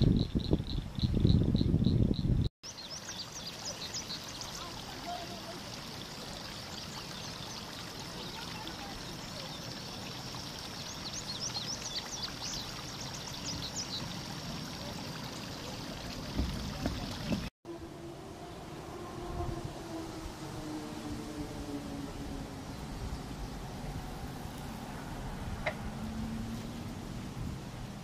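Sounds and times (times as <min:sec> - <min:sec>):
songbird chirping: 0:00.0 - 0:27.2
wind: 0:00.0 - 0:28.0
flowing water: 0:02.6 - 0:28.0.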